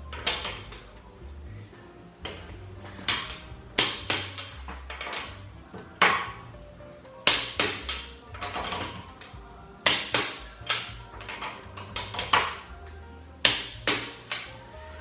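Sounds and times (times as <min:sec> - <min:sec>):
beat music with drums and bass: 0:00.0 - 0:15.0.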